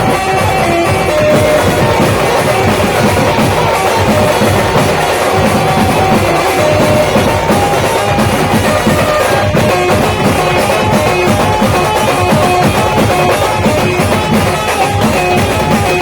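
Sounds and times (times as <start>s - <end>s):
driving drum beat: 0.0s - 16.0s
street band playing: 0.0s - 16.0s.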